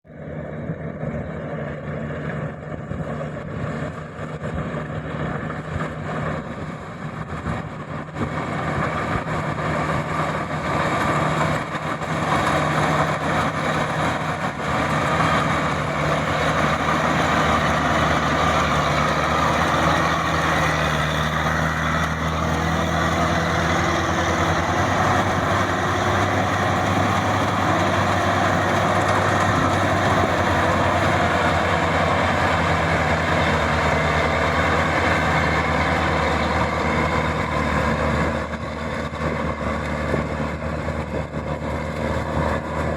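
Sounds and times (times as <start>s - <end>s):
combine harvester engine hum: 0.0s - 42.9s.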